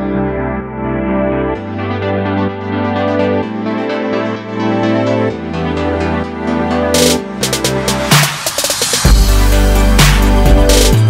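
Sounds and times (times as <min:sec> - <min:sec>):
synthesizer electronic music: 0:00.0 - 0:11.0.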